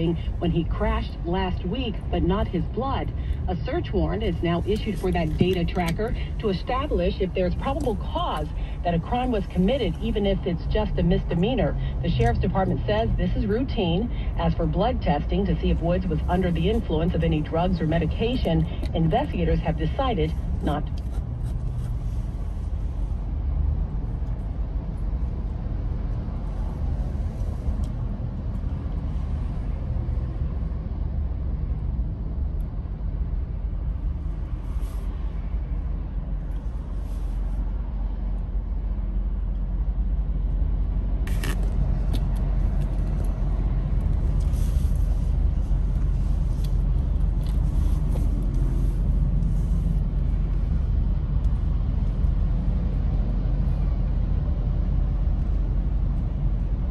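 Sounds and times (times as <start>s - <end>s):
car road and engine rumble: 0.0s - 56.9s.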